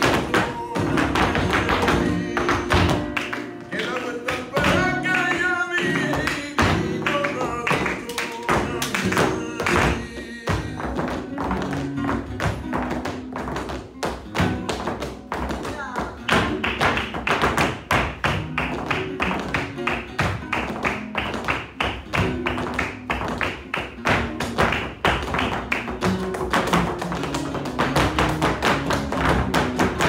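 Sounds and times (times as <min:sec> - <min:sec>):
dance shoes tapping floor: 0:00.0 - 0:30.0
flamenco music: 0:00.0 - 0:30.0.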